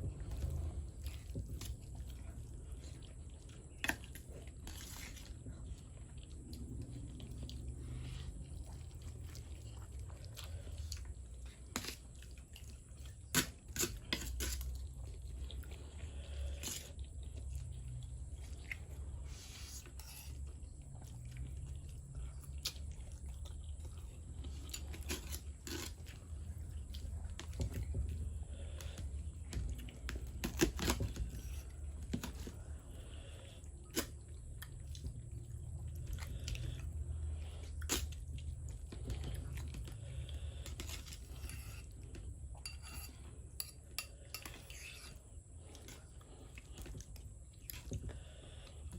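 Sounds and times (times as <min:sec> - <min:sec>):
person chewing noodles: 0:00.0 - 0:48.9.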